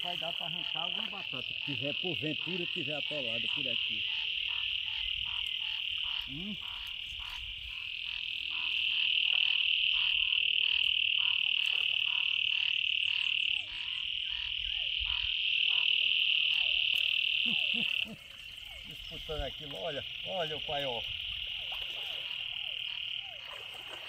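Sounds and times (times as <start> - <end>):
frogs croaking: 0.0 - 24.0
frogs trilling: 0.0 - 24.0.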